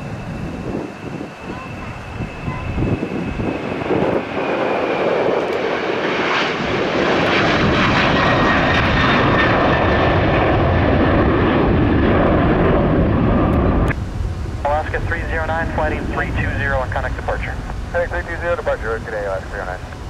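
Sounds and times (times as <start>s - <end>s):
jet airliner engines: 0.0s - 20.0s.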